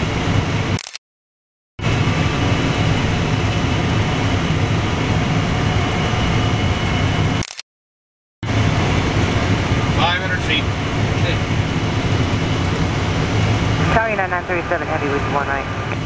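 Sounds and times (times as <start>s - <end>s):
air rush in cockpit: 1.8s - 7.5s, 8.4s - 16.0s.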